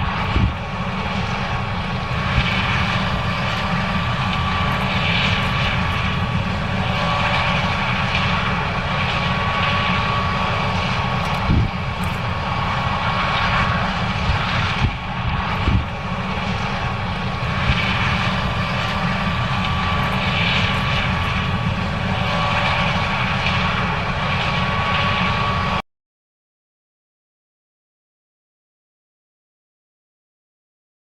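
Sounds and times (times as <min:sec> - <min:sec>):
combine diesel rumble: 0:00.0 - 0:25.8
high machine whine: 0:00.0 - 0:25.8.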